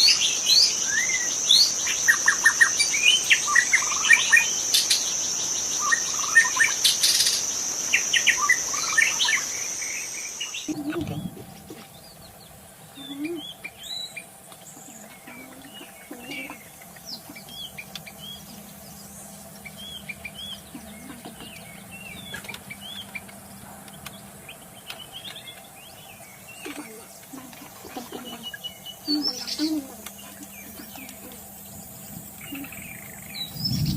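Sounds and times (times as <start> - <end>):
bird singing varied phrases: 0.0 - 23.3, 24.2 - 33.9
faint steady hum: 0.0 - 33.9
high insect drone: 0.0 - 33.9.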